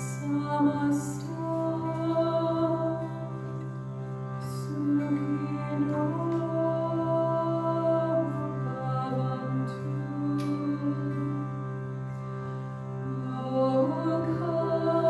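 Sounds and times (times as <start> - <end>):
woman chanting: 0.0 - 3.3, 4.4 - 11.4, 13.2 - 15.0
harmonium drone: 0.0 - 15.0.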